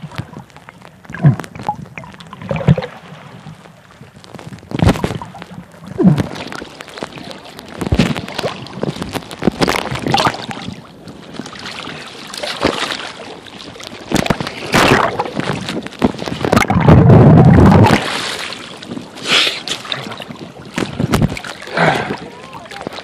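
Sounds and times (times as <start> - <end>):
small waves splashing: 0.0 - 23.0.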